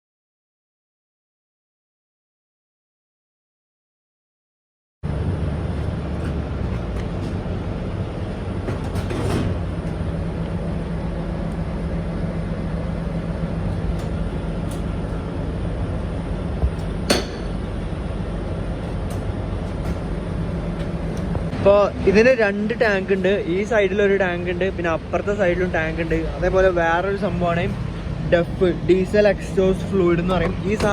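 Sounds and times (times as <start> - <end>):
diesel truck engine running: 5.0 - 30.9.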